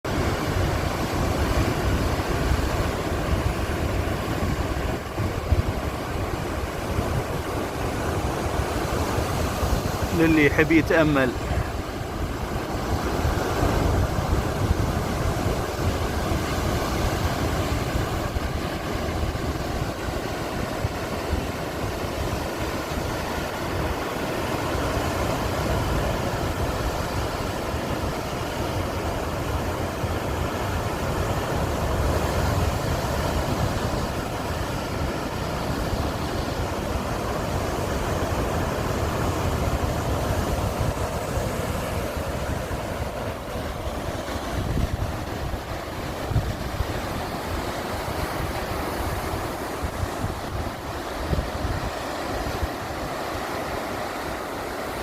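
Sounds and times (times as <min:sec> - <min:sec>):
sea waves surf: 0:00.0 - 0:55.0
wind buffeting microphone: 0:00.1 - 0:10.2, 0:11.3 - 0:53.5.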